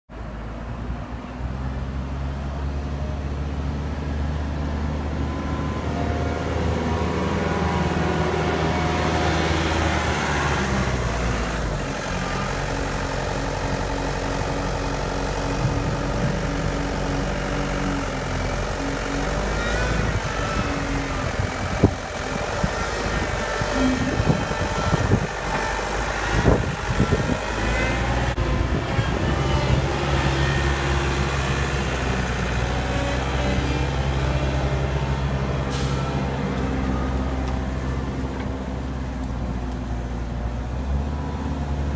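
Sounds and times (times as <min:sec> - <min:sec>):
diesel engine running: 0:00.2 - 0:41.9.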